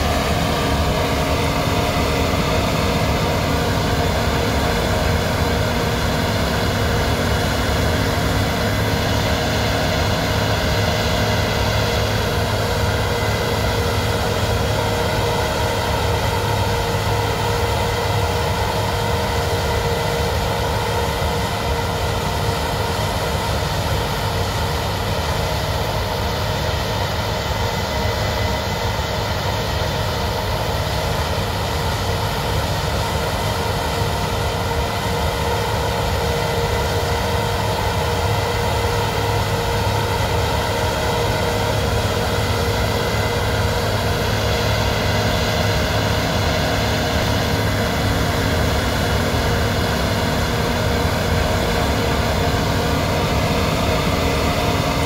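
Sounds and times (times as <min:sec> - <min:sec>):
combine harvester machine hum: 0:00.0 - 0:55.0.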